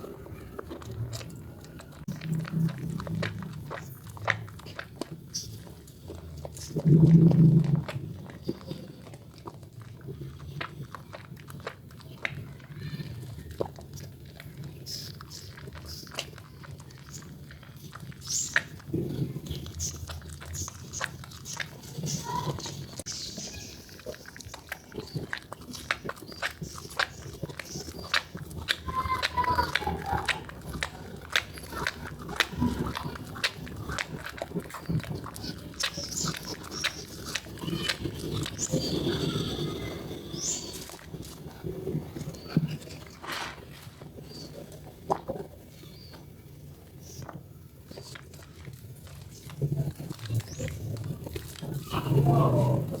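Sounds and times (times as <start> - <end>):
wet soap squished in hands: 0.0 - 53.0.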